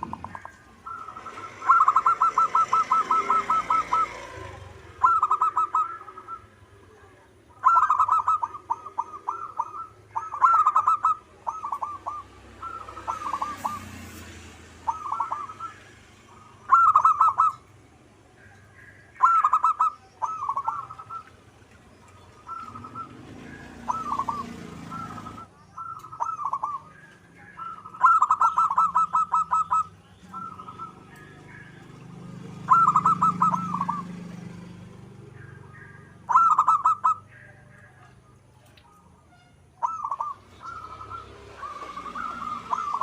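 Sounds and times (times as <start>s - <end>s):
dove cooing: 0.0s - 38.2s, 39.8s - 43.0s.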